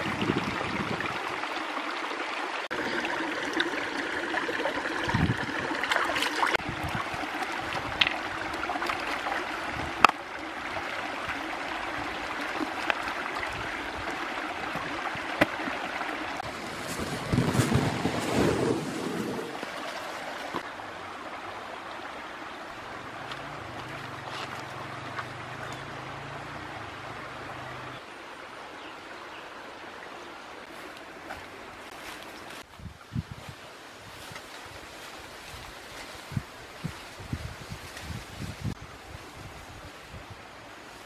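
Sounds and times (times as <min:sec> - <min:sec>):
stream trickling over stones: 0:00.0 - 0:39.2.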